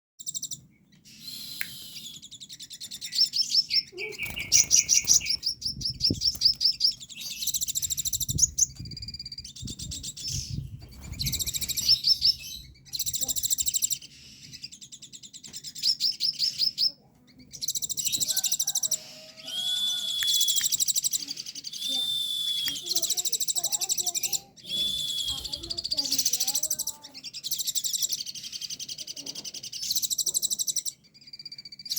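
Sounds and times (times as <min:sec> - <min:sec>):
bird singing trills and chips: 0:00.2 - 0:31.9.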